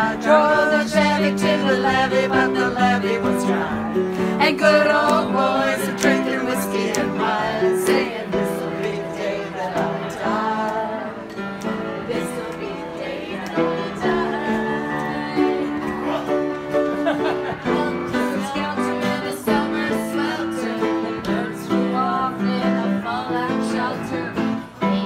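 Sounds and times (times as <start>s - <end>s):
group singing in unison: 0.0s - 25.0s
guitar: 0.0s - 25.0s.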